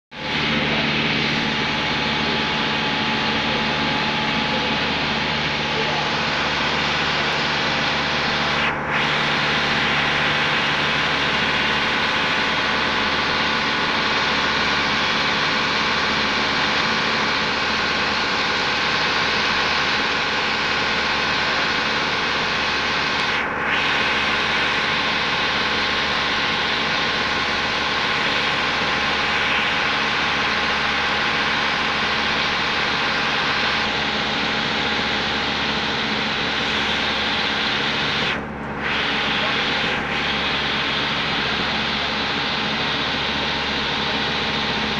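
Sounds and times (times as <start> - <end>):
motorboat engine hum: 0.1 - 44.9.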